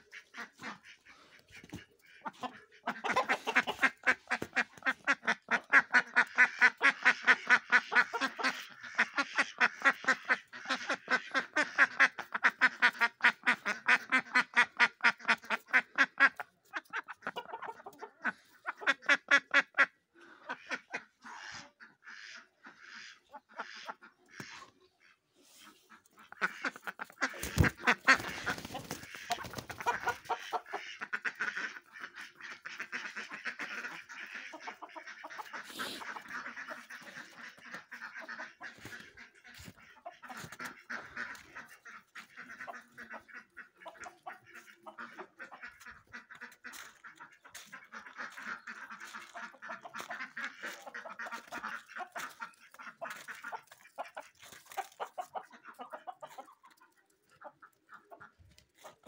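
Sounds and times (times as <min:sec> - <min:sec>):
ducks quacking: 0:00.0 - 0:59.0.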